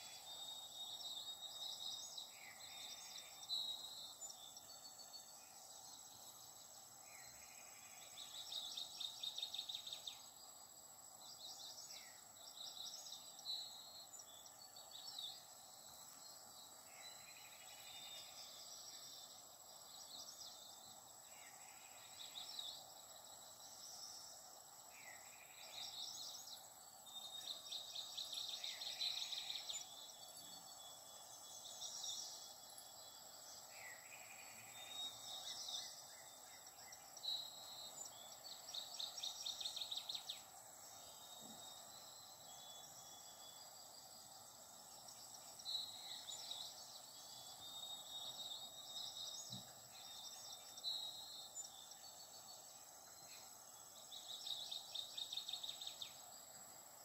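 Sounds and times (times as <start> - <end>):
background hiss: 0.0 - 57.0
faint birdsong: 0.0 - 57.0.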